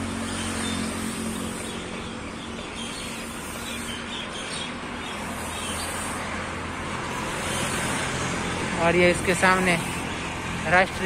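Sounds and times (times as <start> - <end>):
birds chirping: 0.0 - 11.0
road traffic noise: 0.0 - 11.0.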